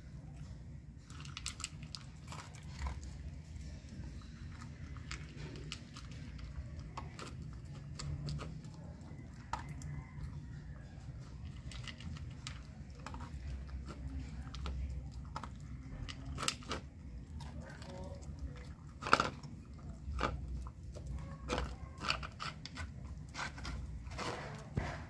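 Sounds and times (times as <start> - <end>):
dog crunching dry kibble: 0.9 - 25.0.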